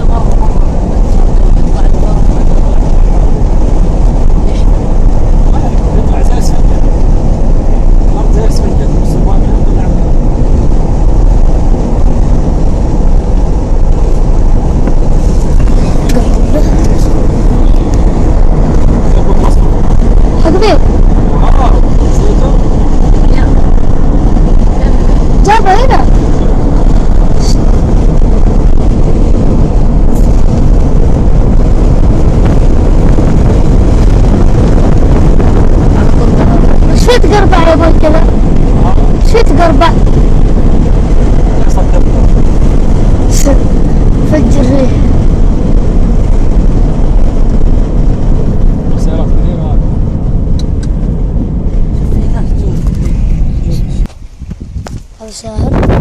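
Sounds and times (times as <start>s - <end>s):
car interior road and wind noise: 0.0s - 56.0s.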